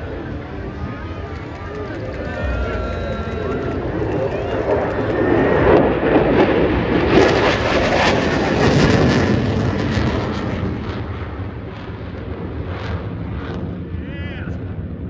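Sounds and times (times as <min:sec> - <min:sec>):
jet engines roaring: 0:00.0 - 0:13.8.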